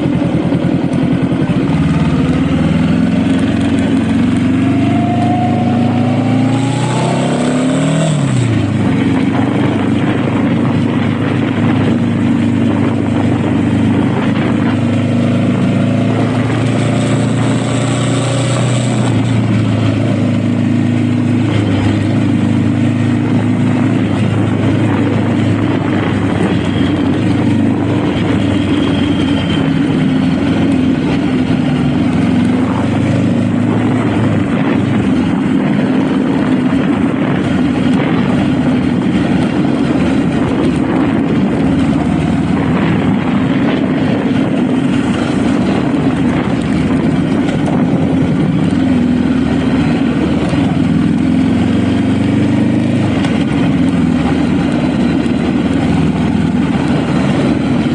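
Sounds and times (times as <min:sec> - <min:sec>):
motorcycle engine running: 0:00.0 - 0:57.9
wind and road rush: 0:00.0 - 0:57.9.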